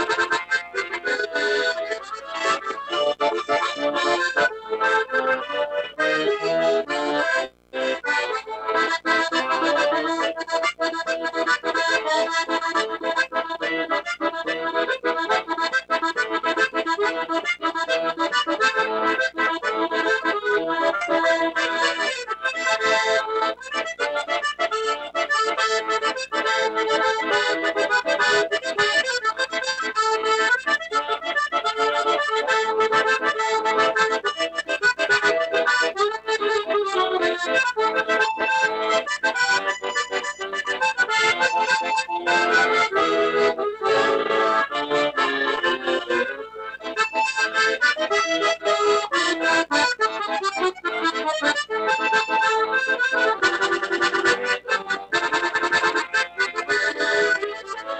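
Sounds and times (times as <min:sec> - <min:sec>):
accordion playing a tune: 0:00.0 - 0:57.9.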